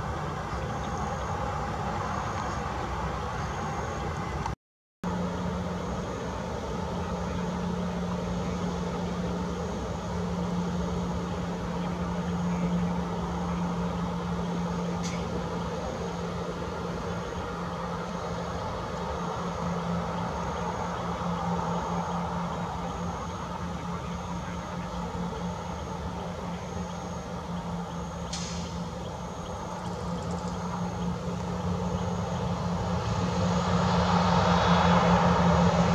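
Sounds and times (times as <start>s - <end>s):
jet engines idling: 0.0s - 35.9s.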